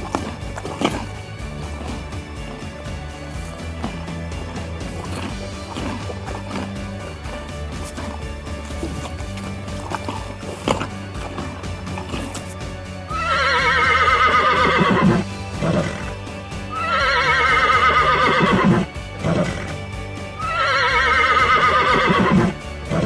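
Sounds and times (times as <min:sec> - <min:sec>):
horse neighing: 0:00.0 - 0:23.0.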